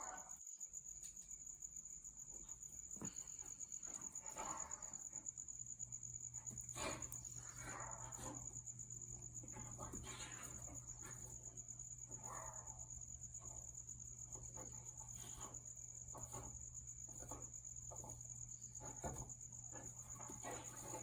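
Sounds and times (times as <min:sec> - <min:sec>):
crickets trilling: 0:00.0 - 0:21.0
dogs playing and scuffling: 0:02.1 - 0:21.0.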